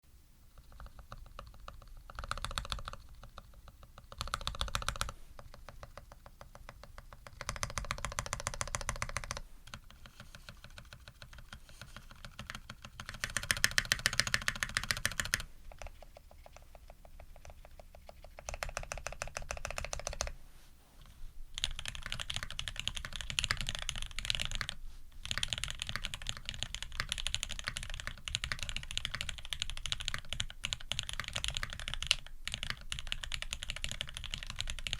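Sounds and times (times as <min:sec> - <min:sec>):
typing on mechanical keyboard: 0:00.6 - 0:20.3, 0:21.6 - 0:34.9.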